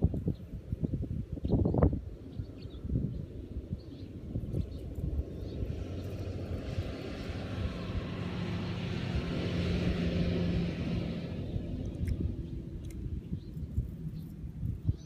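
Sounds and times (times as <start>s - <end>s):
passing engine drone: 2.1s - 14.8s.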